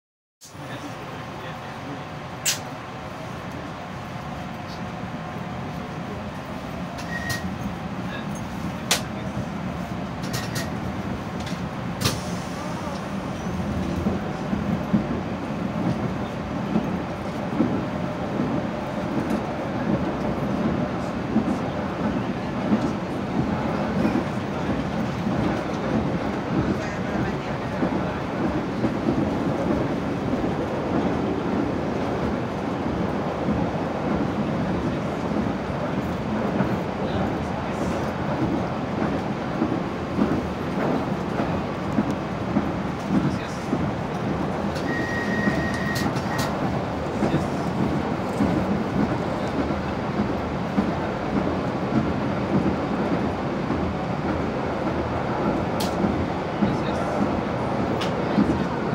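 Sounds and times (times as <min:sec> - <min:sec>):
tram interior rumble: 0:00.4 - 0:58.9.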